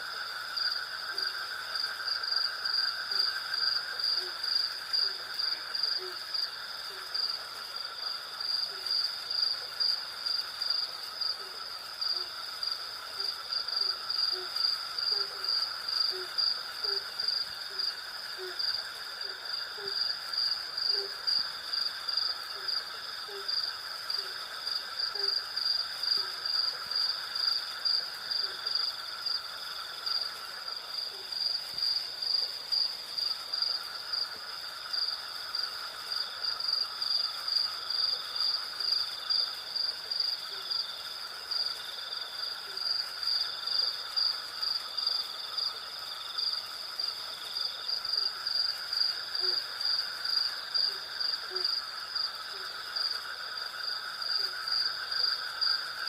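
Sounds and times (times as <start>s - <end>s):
crickets chirping: 0.0s - 56.0s
high insect trill: 0.0s - 56.0s.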